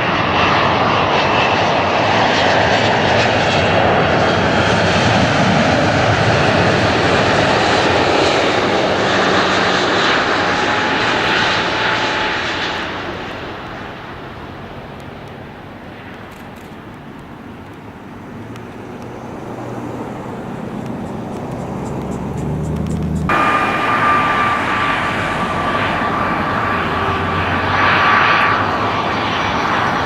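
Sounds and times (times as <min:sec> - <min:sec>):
airliner engines passing: 0:00.0 - 0:30.0.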